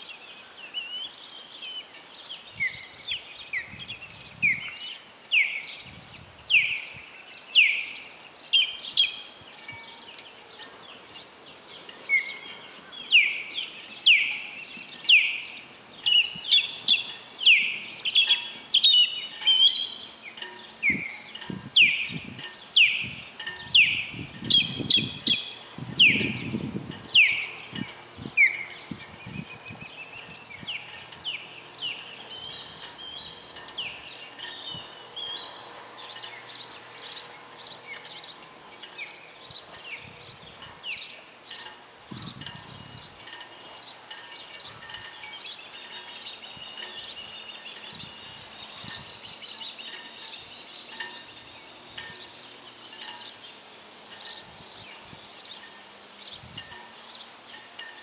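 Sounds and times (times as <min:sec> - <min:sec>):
osprey whistled calls: 0:00.0 - 0:10.2, 0:11.8 - 0:58.0.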